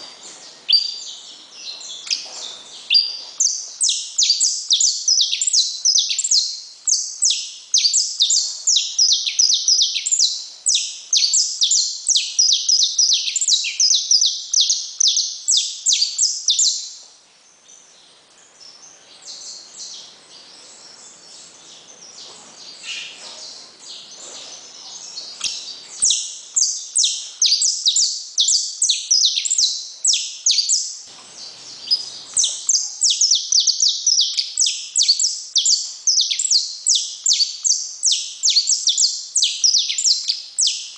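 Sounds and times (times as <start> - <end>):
finch singing high sharp notes: 0.0 - 17.0, 22.7 - 40.9.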